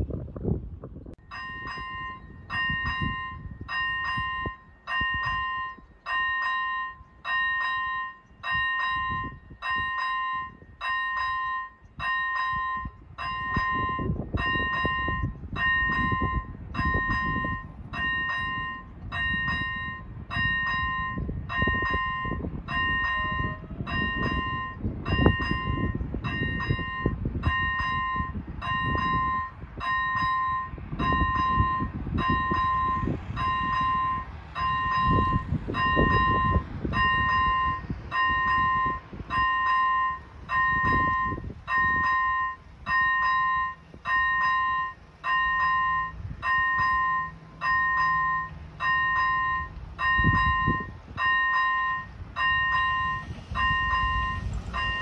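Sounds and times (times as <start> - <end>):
level crossing warning bell: 1.2 - 55.0.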